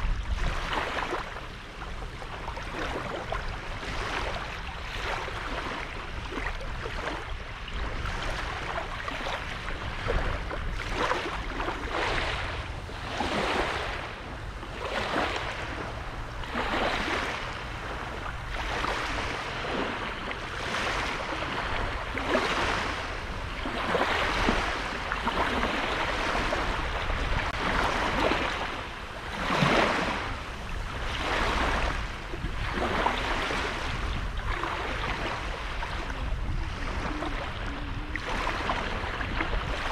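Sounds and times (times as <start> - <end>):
sea waves washing on sand: 0.0 - 39.9
wind rumble on microphone: 0.0 - 39.9.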